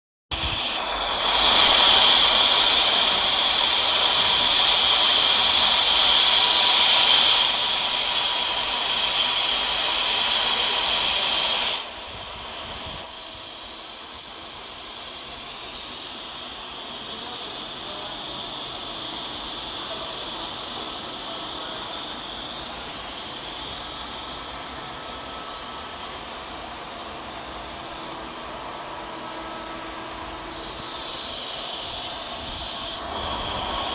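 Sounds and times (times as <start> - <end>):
faint steady whine: 0.3 - 33.9
welding arc hissing: 0.3 - 33.9.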